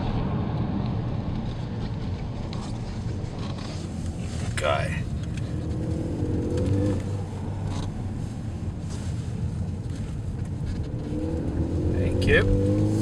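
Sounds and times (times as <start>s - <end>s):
car engine accelerating: 0.0s - 13.0s
road and tyre noise: 0.0s - 13.0s.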